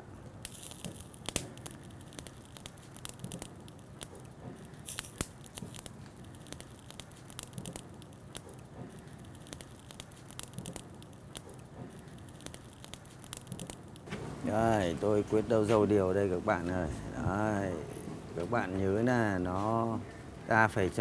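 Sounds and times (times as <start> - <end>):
faint low hiss: 0.0 - 21.0.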